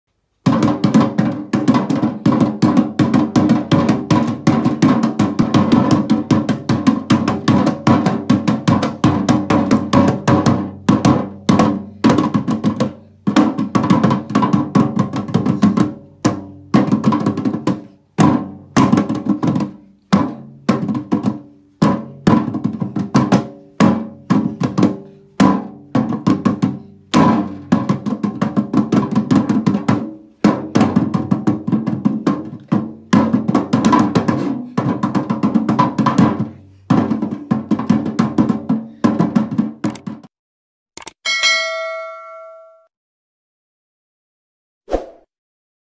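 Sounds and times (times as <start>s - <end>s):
hands drumming on plastic box: 0.4s - 40.3s.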